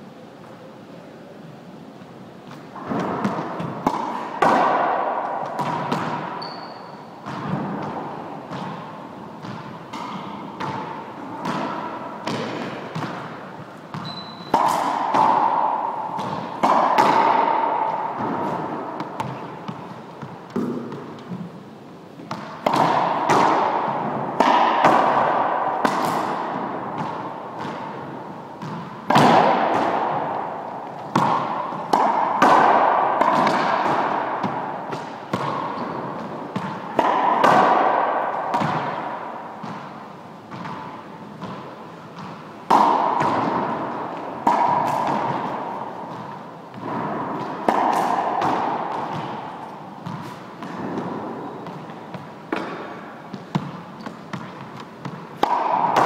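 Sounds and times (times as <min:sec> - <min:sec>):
squash ball smacks echoing: 0:02.5 - 0:21.5, 0:22.2 - 0:56.0.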